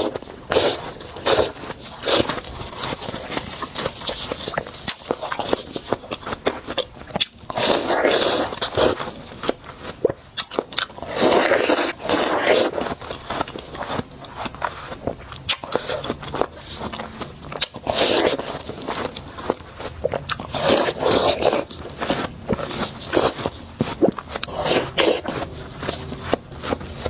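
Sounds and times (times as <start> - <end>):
juicy chewing clicks: 0.0 - 27.0
wet crunching bites of watermelon: 0.0 - 27.0.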